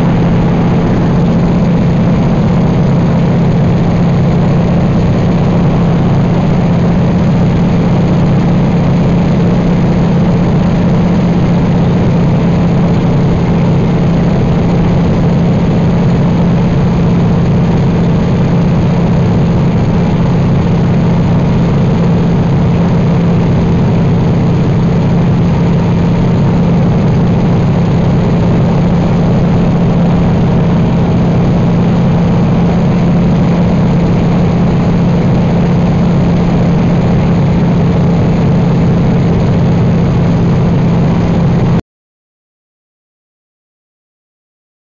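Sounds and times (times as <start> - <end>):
radial aircraft engine drone: 0.0 - 41.8
rushing air: 0.0 - 41.8.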